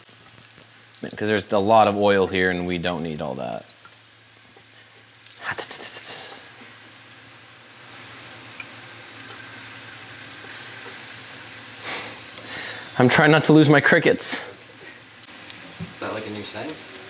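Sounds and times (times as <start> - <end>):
frying in hot oil: 0.0 - 17.0.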